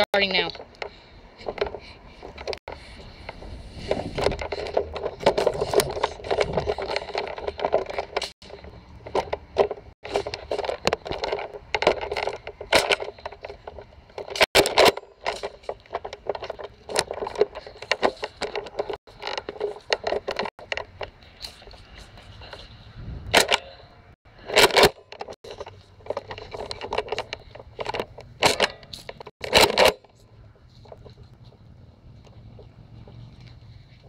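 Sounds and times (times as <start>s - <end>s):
sharp plastic clacks: 0.0s - 22.6s, 23.3s - 31.5s
camera handling rustling: 0.8s - 23.6s, 24.4s - 34.0s.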